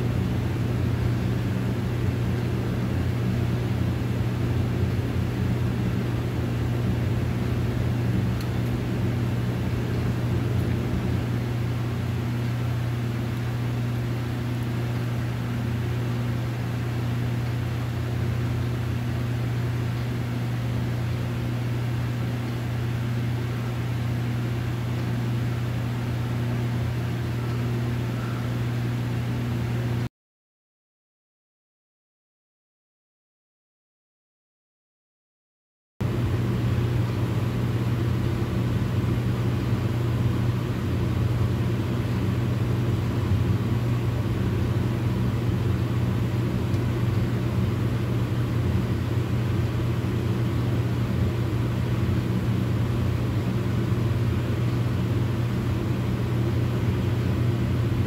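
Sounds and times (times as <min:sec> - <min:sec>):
low mechanical hum: 0:00.0 - 0:30.1, 0:36.0 - 0:58.0.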